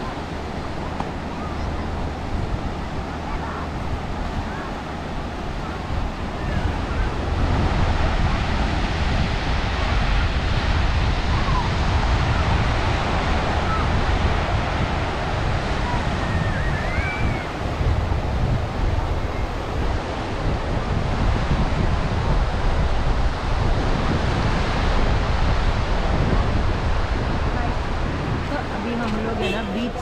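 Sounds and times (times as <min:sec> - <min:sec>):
surf washing onto beach: 0:00.0 - 0:30.0
wind buffeting microphone: 0:00.0 - 0:30.0.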